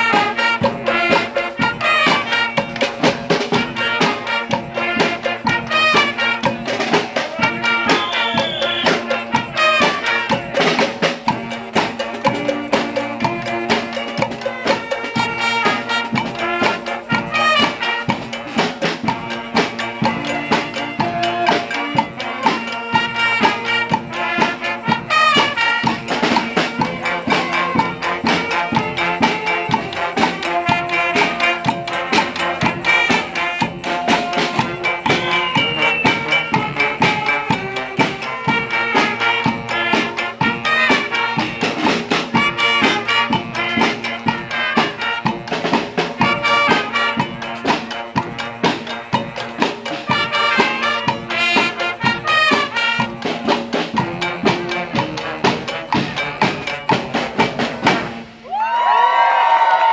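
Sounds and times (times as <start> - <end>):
brass horns: 0.0 - 59.9
drums and percussion: 0.0 - 59.9.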